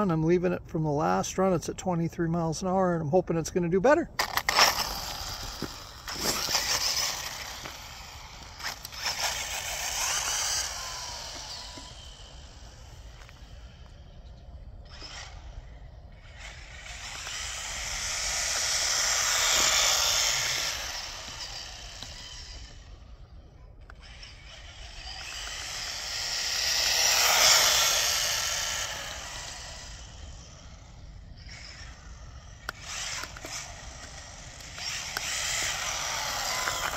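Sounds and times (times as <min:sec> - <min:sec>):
electric motor whine: 0:04.2 - 0:36.9.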